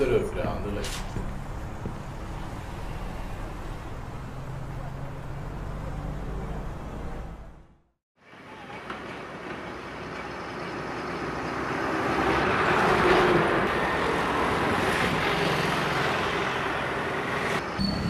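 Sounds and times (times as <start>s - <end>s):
vehicle passing by: 0.6s - 7.8s, 10.3s - 17.7s.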